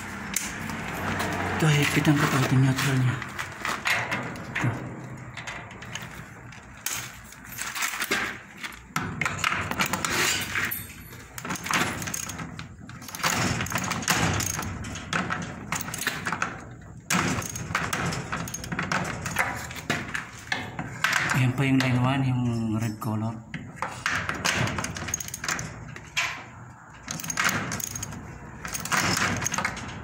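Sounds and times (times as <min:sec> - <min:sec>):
tool handling noise: 0:00.0 - 0:22.0, 0:23.5 - 0:30.0.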